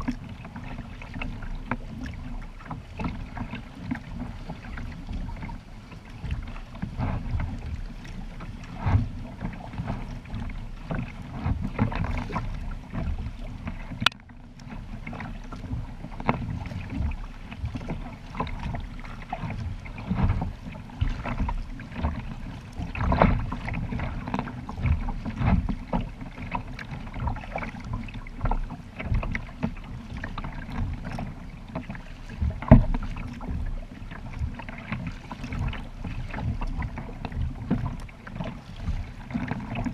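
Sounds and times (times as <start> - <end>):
paddle splashes against hull: 0.0 - 39.9.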